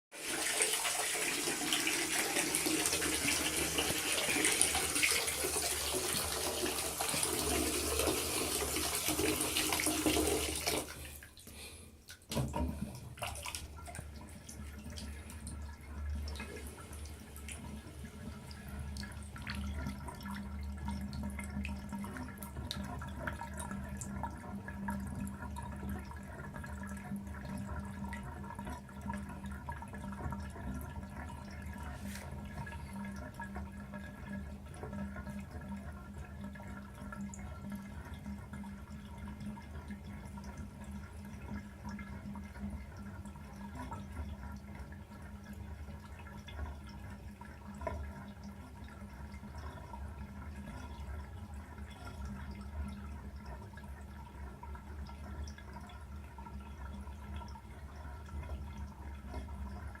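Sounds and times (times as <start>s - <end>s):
water running from tap: 0.2s - 60.0s.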